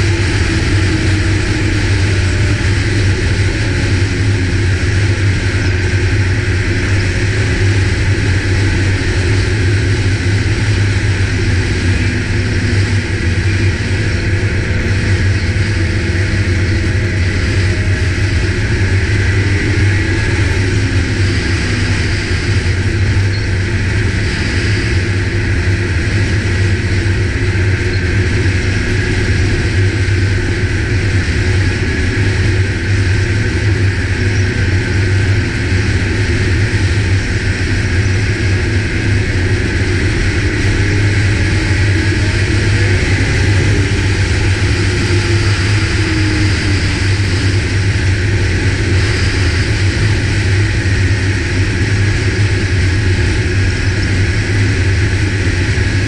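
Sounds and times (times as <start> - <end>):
snowmobile engine and track drone: 0.0 - 56.0.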